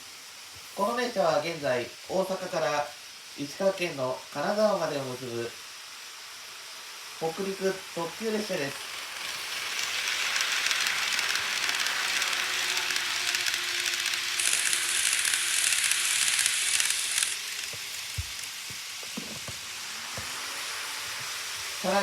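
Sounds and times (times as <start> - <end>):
faint motor whine: 0.0 - 22.0
model train rolling hiss: 0.0 - 22.0.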